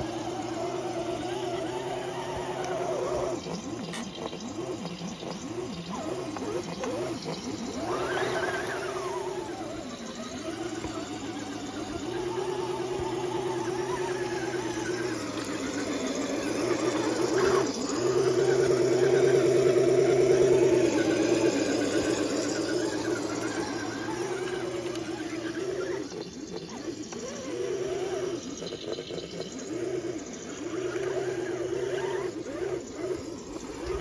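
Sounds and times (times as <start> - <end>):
toy truck electric motor whining: 0.0 - 34.0.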